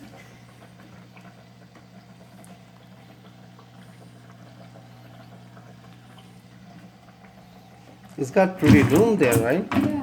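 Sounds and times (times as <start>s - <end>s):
appliance electrical hum: 0.0s - 10.0s.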